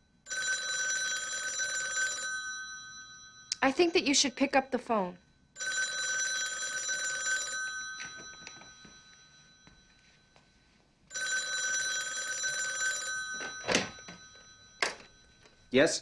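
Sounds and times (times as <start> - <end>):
telephone ringing: 0.3 - 4.9, 5.5 - 10.5, 11.1 - 15.8.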